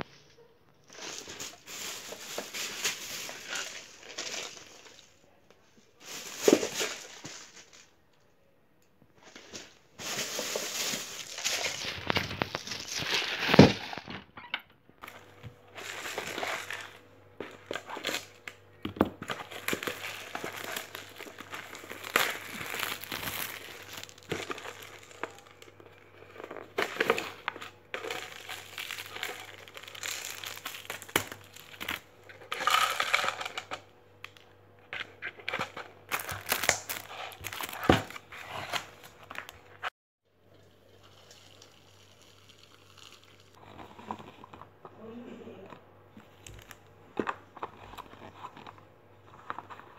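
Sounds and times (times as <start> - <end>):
plastic crinkling and rustling: 0.0 - 8.2, 9.2 - 14.3, 15.0 - 39.9, 46.1 - 49.9.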